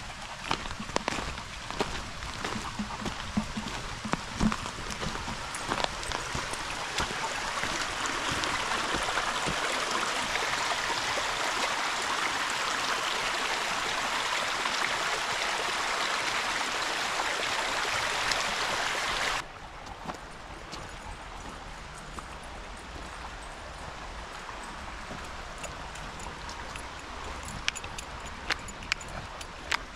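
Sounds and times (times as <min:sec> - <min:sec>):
stream running over stones: 0:00.0 - 0:29.9.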